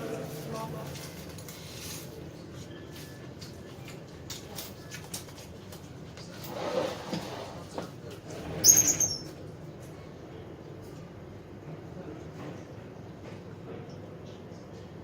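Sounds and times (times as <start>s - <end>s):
low murmur of voices: 0.0s - 15.0s.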